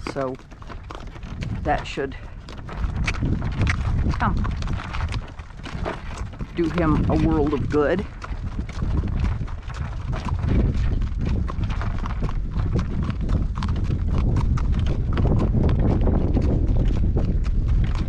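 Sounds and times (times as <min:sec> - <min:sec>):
horse hooves clip-clopping: 0:00.0 - 0:18.0
low rumble: 0:00.0 - 0:18.0.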